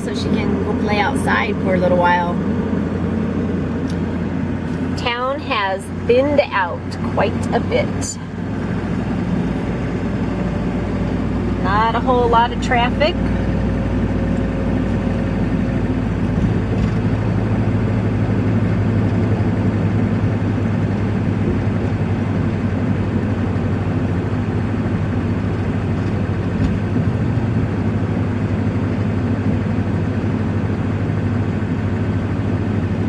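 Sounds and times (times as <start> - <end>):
engine and road noise inside car: 0.0 - 33.0.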